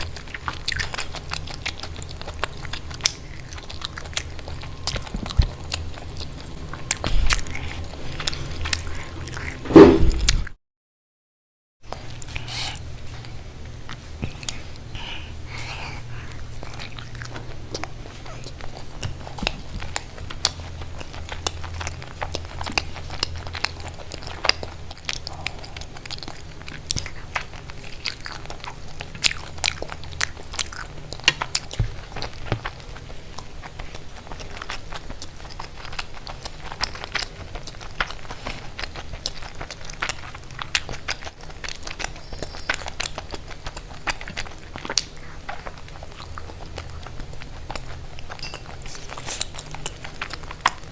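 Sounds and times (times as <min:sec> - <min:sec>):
crunchy chewing: 0:00.0 - 0:10.5, 0:11.9 - 0:50.9
low steady hum: 0:00.0 - 0:10.5, 0:11.8 - 0:50.9.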